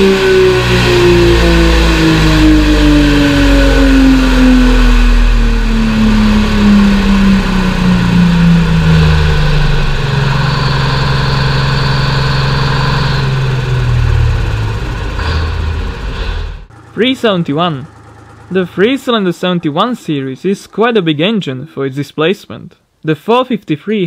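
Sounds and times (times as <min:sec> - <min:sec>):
diesel engine running: 0:00.0 - 0:21.8
high whine: 0:00.0 - 0:21.9.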